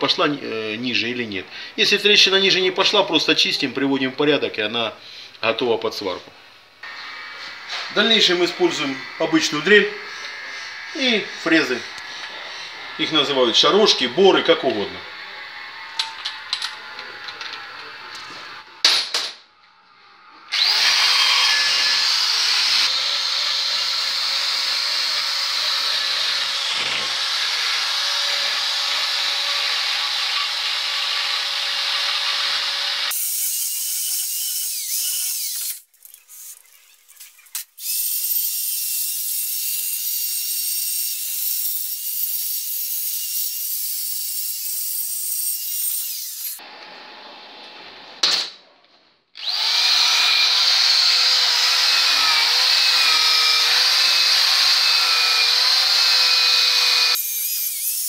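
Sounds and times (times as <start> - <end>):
electric drill grinding metal: 6.8 - 18.8, 20.5 - 46.6, 49.4 - 58.0.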